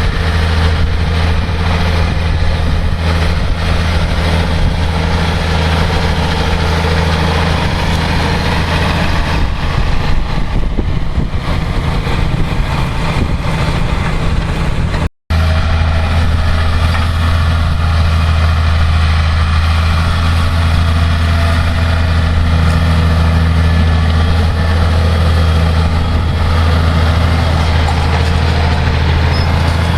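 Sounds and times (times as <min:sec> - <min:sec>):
tractor diesel engine drone: 0:00.0 - 0:29.9.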